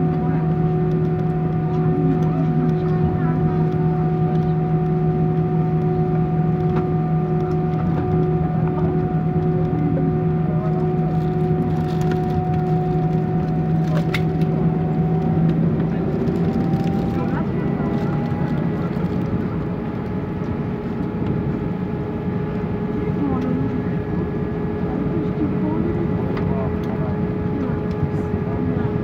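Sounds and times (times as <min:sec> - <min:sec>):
aircraft cabin engine hum: 0:00.0 - 0:29.0.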